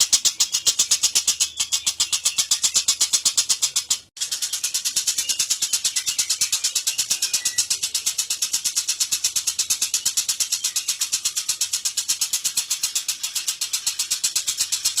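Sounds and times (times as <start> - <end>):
lovebird chattering: 0.0 - 15.0.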